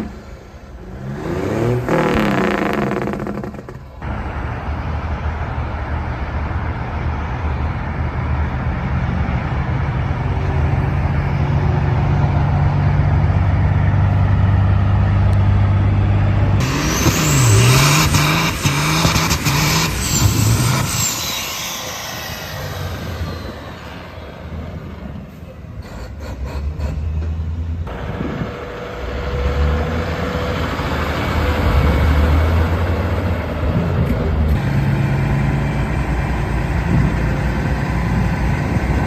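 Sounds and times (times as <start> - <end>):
engine revving: 0.0 - 4.7, 8.4 - 39.0
truck engine droning: 0.0 - 39.0.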